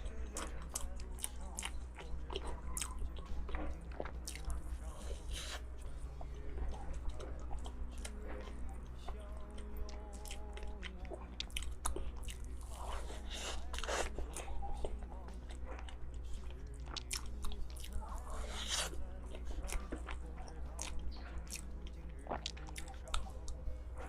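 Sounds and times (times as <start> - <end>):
chewing cake: 0.0 - 24.0
steady low hum: 0.0 - 24.0.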